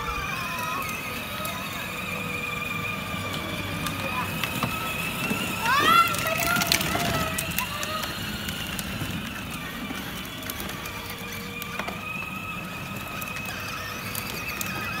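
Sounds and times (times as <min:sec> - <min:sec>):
electric motors whining: 0:00.0 - 0:15.0
plastic wheels rumbling on asphalt: 0:00.0 - 0:15.0.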